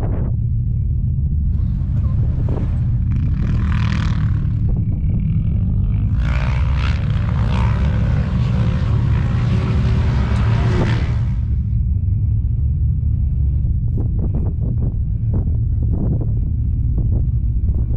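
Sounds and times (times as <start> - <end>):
vehicle engines rumbling: 0.0 - 17.9.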